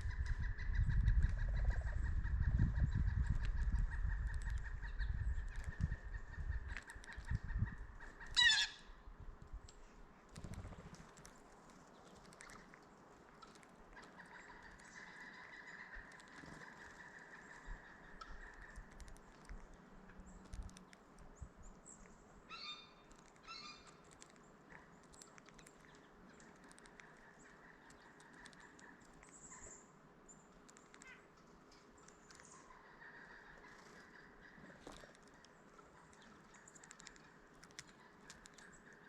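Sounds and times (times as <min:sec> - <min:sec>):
faint birds calling: 0:00.0 - 0:09.2, 0:09.8 - 0:39.0.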